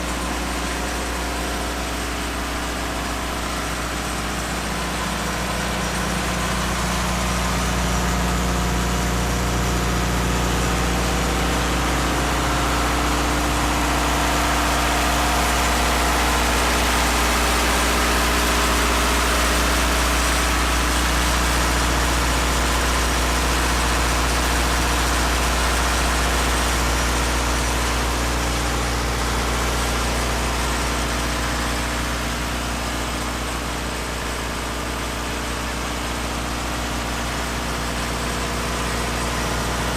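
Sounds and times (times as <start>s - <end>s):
street sweeper engine drone: 0.0s - 39.9s.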